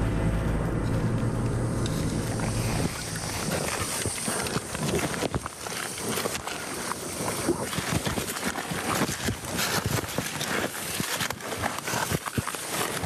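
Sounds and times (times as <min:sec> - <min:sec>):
footsteps crunching through dry grass: 0:00.0 - 0:13.0.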